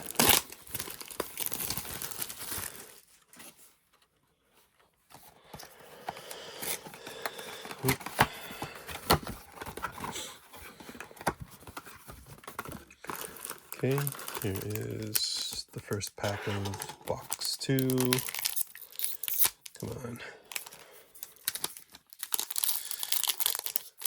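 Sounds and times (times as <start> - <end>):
plastic wrapping crinkling and tearing: 0.0 - 3.8, 6.6 - 24.0.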